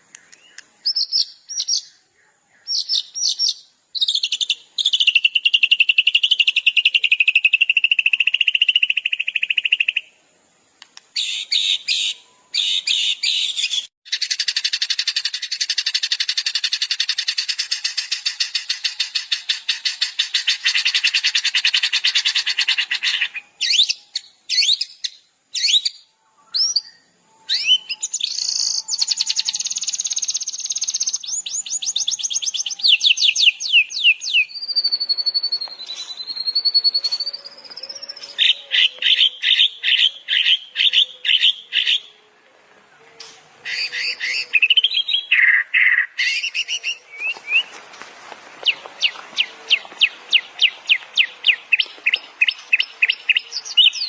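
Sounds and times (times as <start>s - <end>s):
recorded songbird song: 0.0s - 54.0s.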